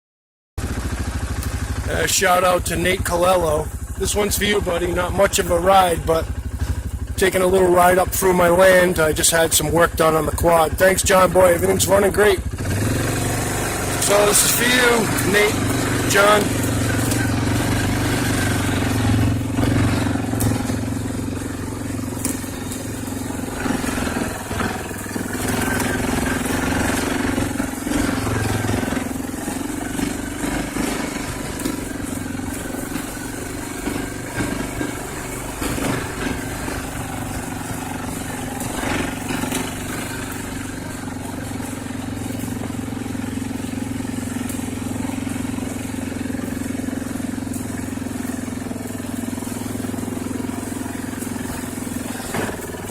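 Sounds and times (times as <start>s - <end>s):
atv engine running: 0.6s - 52.9s.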